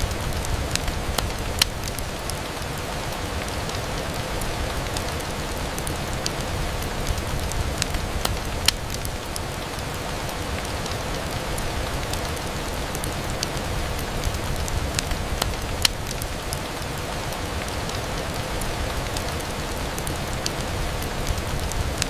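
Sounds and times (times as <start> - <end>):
sharp ticks of raindrops: 0.0 - 22.0
steady rain falling: 0.0 - 22.0.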